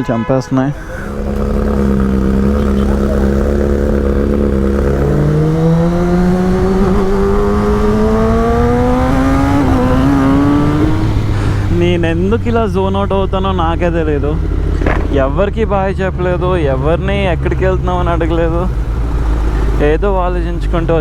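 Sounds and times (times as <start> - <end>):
motorcycle engine accelerating: 0.8 - 21.0.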